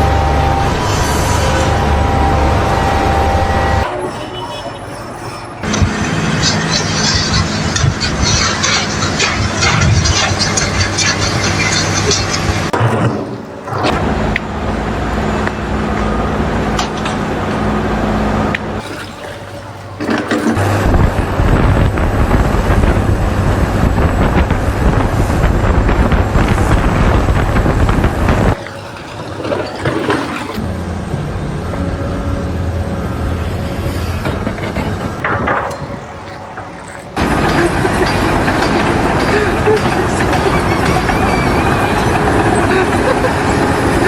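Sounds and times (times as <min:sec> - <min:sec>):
engine running: 0:00.0 - 0:03.9, 0:05.6 - 0:44.0.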